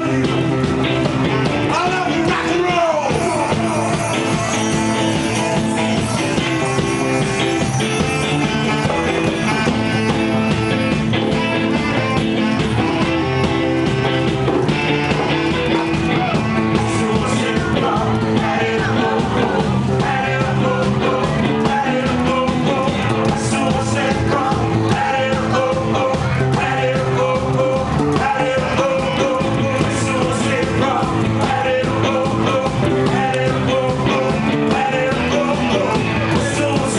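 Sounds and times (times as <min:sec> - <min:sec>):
rock band playing live: 0:00.0 - 0:36.9
person singing: 0:01.4 - 0:14.3, 0:15.1 - 0:36.9.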